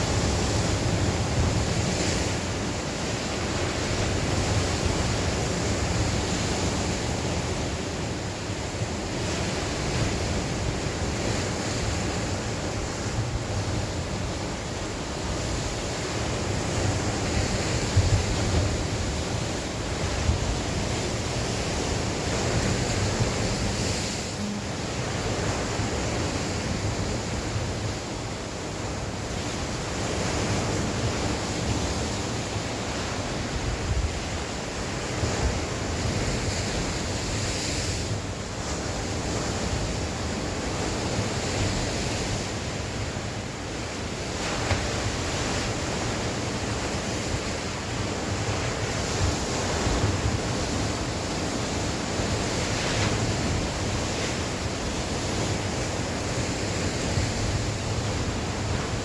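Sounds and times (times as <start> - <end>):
sea waves breaking on shore: 0.0 - 59.0
wind blowing on microphone: 0.0 - 59.0.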